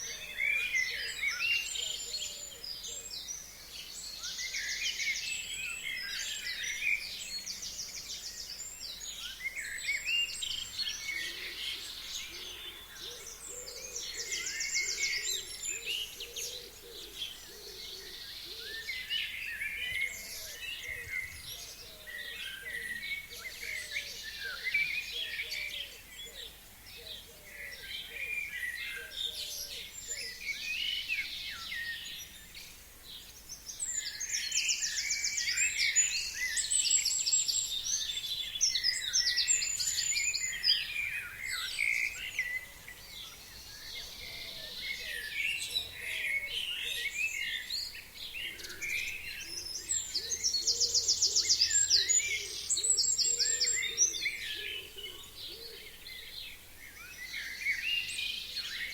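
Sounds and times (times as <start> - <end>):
songbirds chirping and singing: 0.0 - 58.9.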